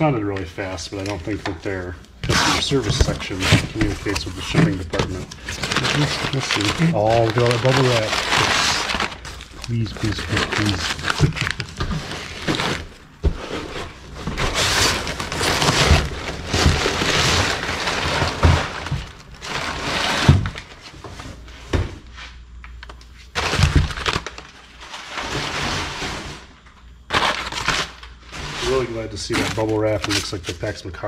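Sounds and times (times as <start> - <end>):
cardboard and bubble wrap crackling: 0.0 - 21.8, 22.7 - 31.0.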